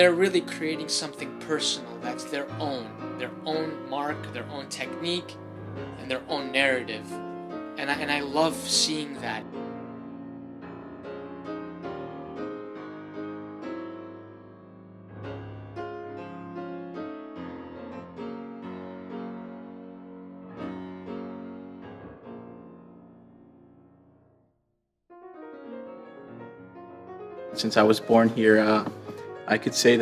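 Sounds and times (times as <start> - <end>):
solo piano music: 0.0 - 24.4, 25.1 - 30.0.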